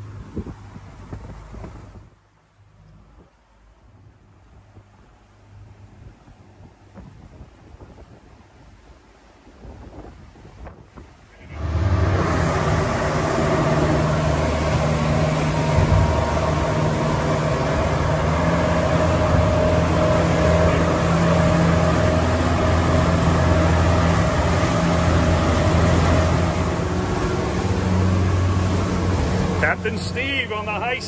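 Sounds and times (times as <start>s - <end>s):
outboard motors droning: 0.0s - 31.0s
rushing water: 0.0s - 31.0s
wind: 0.0s - 31.0s.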